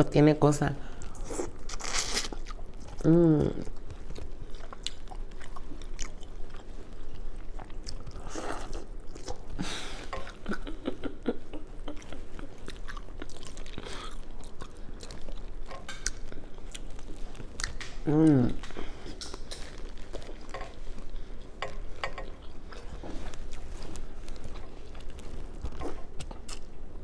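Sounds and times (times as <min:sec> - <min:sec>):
chewing corn on the cob: 0:01.1 - 0:09.6, 0:11.8 - 0:27.0.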